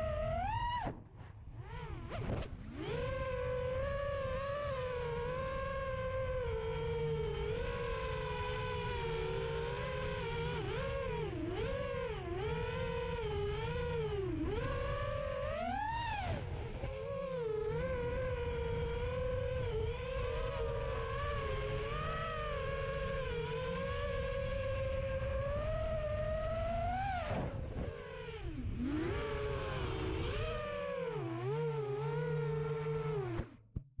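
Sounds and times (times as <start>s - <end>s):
wind rumble on microphone: 0.0s - 31.8s
drone motors whining: 0.0s - 33.6s.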